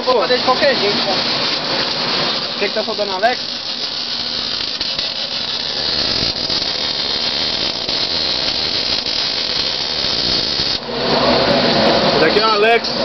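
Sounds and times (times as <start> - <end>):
welding arc crackling hiss: 0.0 - 11.0.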